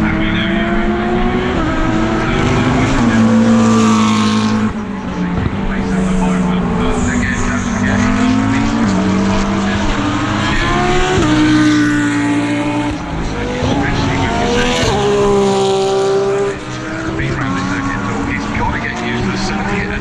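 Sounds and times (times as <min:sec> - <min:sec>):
race car engines with gear changes: 0:00.0 - 0:20.0.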